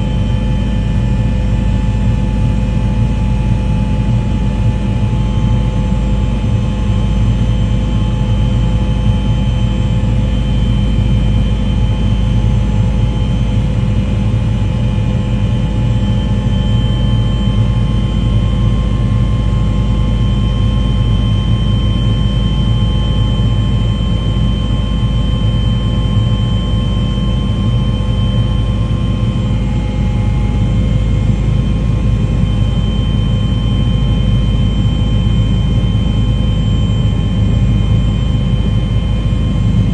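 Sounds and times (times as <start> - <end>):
loud engine drone: 0.0 - 39.9.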